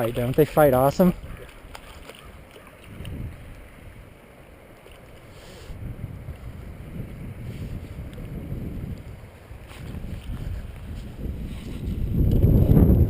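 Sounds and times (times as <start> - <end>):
wind buffeting microphone: 0.0 - 4.2, 5.7 - 13.0.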